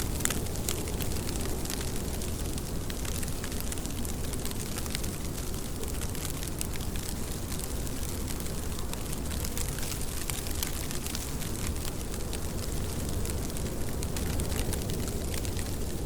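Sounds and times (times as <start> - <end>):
steady rain pattering: 0.0 - 16.0.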